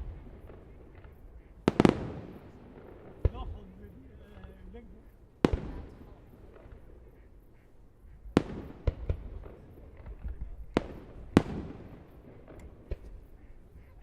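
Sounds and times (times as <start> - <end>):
fireworks bangs with echoing rumble: 0.0 - 13.9.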